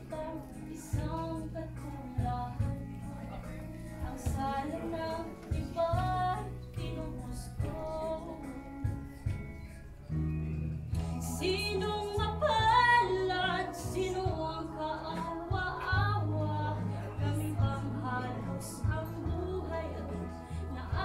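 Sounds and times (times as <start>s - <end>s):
woman singing: 0.0s - 9.5s, 11.1s - 21.0s
instrumental accompaniment: 0.0s - 21.0s.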